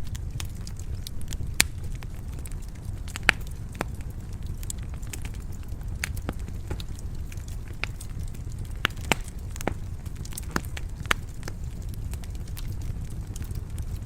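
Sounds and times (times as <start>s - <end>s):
low rumble of burning logs: 0.0s - 14.0s
sharp fire pops: 0.0s - 14.0s
wood fire crackling: 0.0s - 14.0s.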